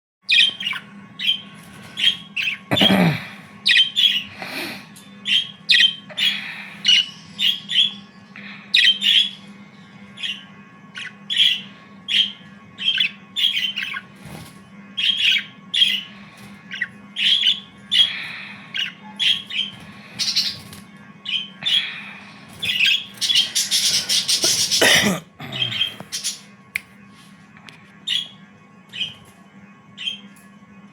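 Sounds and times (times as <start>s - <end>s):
budgerigars chirping and squawking: 0.3s - 2.9s, 3.6s - 9.5s, 10.2s - 25.0s, 25.7s - 26.5s, 28.1s - 29.3s, 30.0s - 30.3s
steady low hum: 0.3s - 30.9s.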